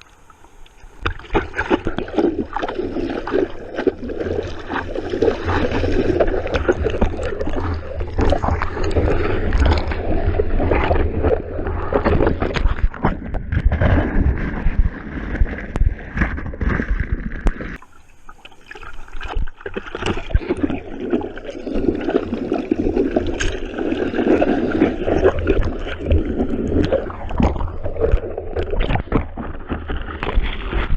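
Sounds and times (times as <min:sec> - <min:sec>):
seawater splashing and sloshing: 0:00.0 - 0:30.9.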